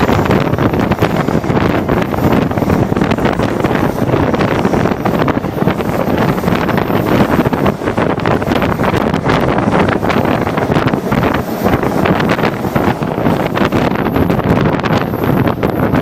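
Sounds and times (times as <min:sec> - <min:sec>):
train running: 0:00.0 - 0:16.0
wind buffeting microphone: 0:00.0 - 0:16.0.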